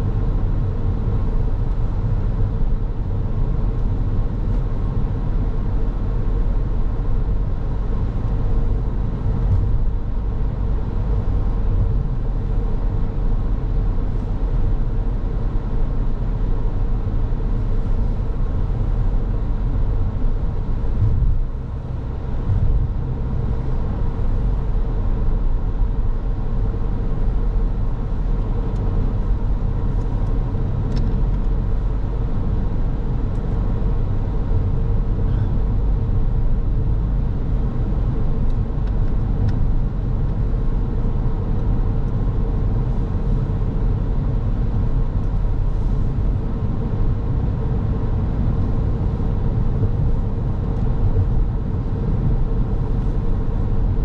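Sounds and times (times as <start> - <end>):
car engine and tyre rumble: 0.0 - 54.0
faint constant hum: 0.0 - 54.0.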